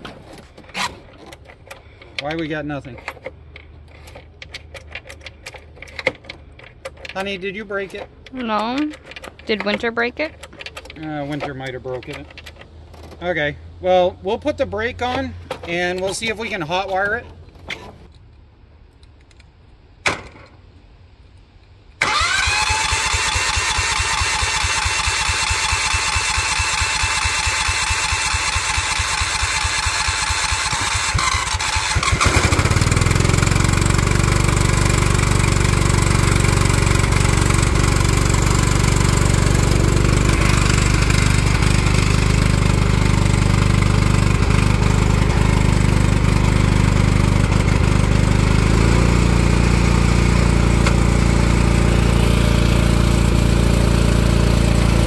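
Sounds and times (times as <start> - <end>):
engine starter cranking: 0.0 - 13.1, 22.0 - 55.0
lawn tractor engine running: 0.0 - 13.4, 22.0 - 55.0.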